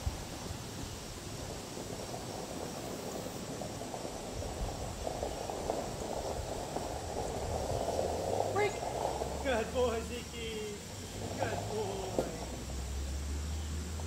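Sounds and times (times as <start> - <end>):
distant car engine and tyres: 0.0 - 14.0.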